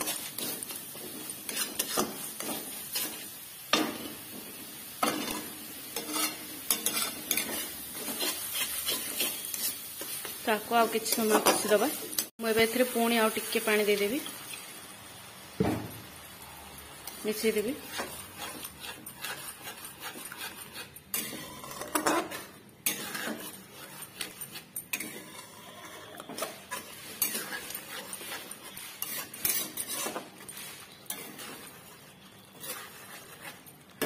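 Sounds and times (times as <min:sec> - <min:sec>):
metal spatula scraping metal pan: 0:00.0 - 0:04.3, 0:05.0 - 0:12.3, 0:17.3 - 0:34.0.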